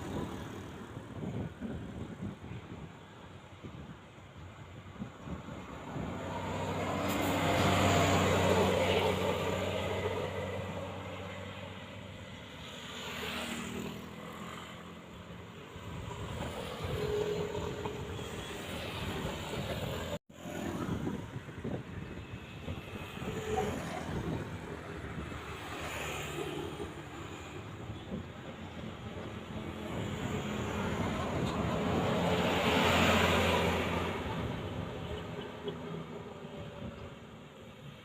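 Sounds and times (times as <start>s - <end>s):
passing traffic: 0.0s - 38.0s.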